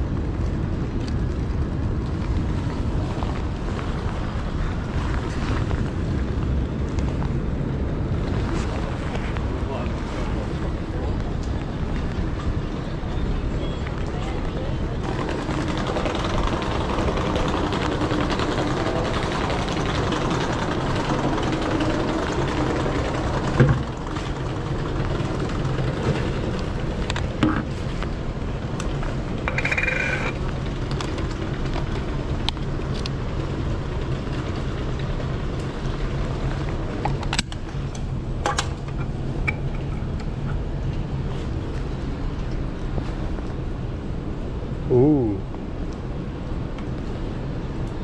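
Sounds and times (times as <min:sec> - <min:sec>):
rainy city street noise: 0:00.0 - 0:48.0.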